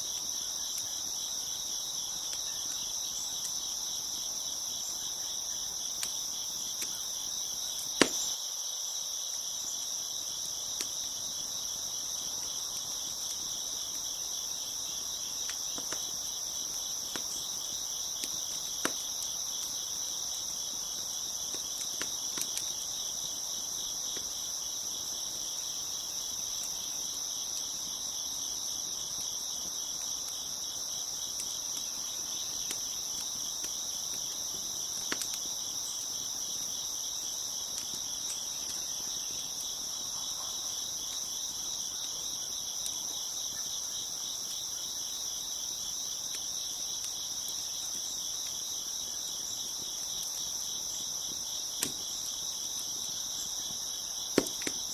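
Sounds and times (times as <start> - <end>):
crickets chirping: 0.0 - 54.9
wood fire popping and crackling: 0.1 - 8.4, 9.4 - 54.9.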